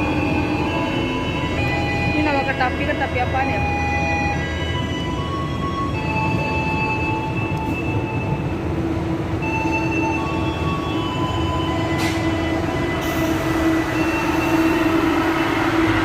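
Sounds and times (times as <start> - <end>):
train engine and wheels rumbling: 0.0 - 16.0.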